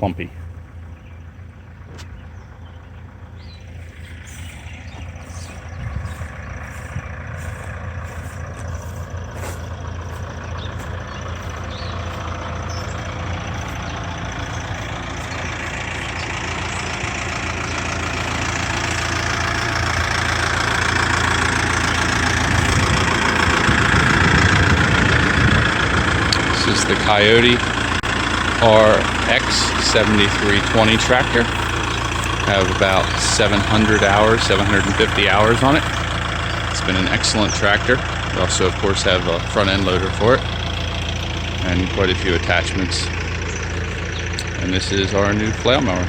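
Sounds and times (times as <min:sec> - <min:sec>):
tractor diesel engine idling: 0:00.0 - 0:46.0.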